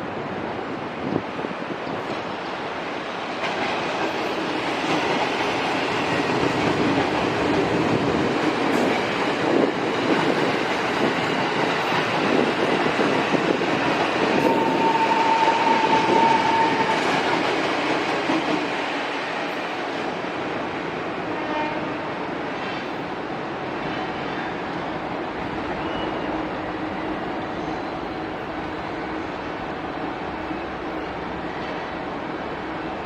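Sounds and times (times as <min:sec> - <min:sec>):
train wheels on rails: 0:00.0 - 0:33.0.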